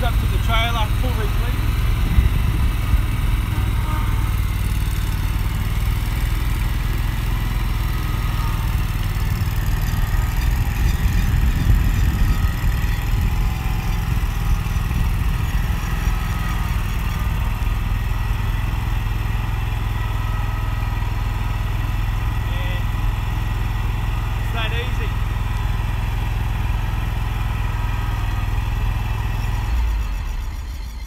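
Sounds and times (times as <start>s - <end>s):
ride-on mower engine running: 0.0s - 31.0s.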